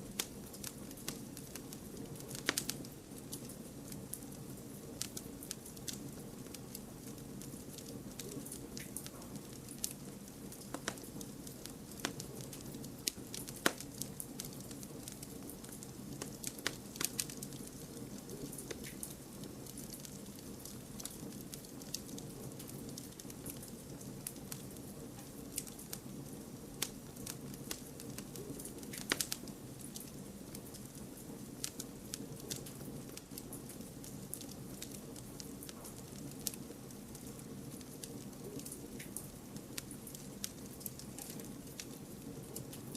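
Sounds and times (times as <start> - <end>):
fire popping and snapping: 0.0 - 42.9
flames rumbling: 0.0 - 42.9.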